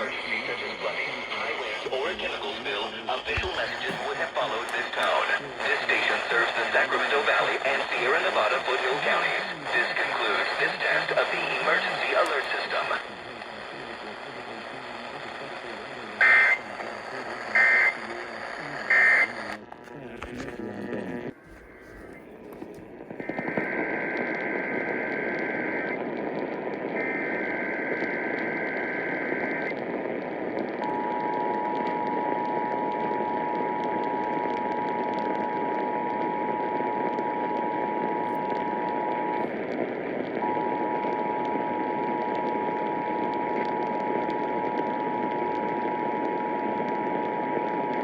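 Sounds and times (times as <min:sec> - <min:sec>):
radio hiss: 0:00.0 - 0:48.0.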